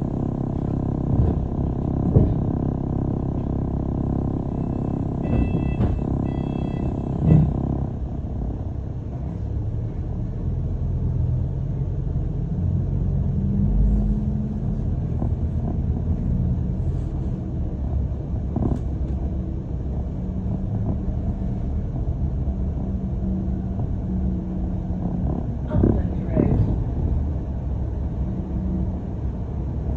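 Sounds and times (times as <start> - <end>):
bus engine and road rumble: 0.0 - 29.9.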